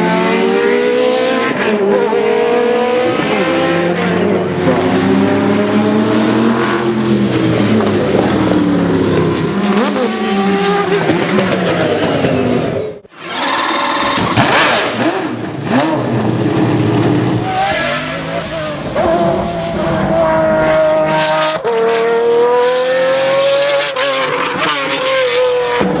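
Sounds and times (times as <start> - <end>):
race car engine at full throttle: 0.0 - 26.0.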